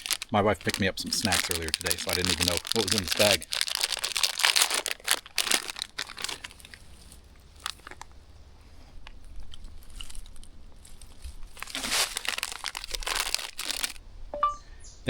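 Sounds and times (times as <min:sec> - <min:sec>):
plastic packaging crinkling: 0:00.0 - 0:08.1, 0:09.4 - 0:14.0.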